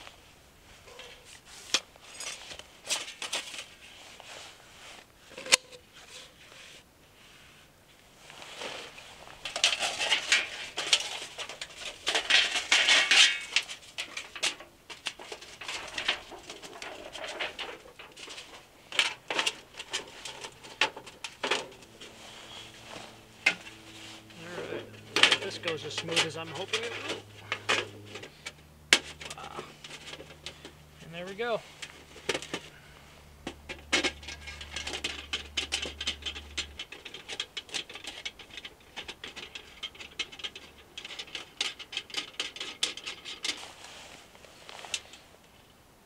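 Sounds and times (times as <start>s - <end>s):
scraping and rustling: 0.0s - 45.8s.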